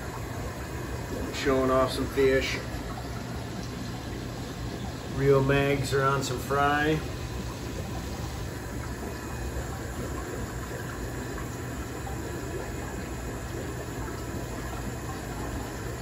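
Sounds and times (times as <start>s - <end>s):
aquarium filter running water: 0.0s - 16.0s.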